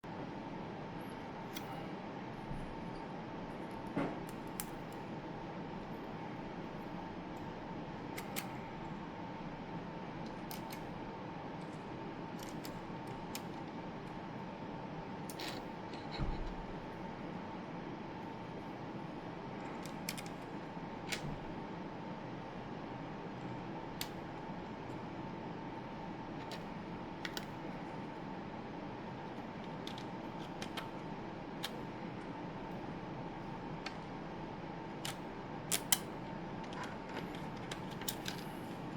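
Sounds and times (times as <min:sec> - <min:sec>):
faint hiss and hum: 0:00.0 - 0:38.9.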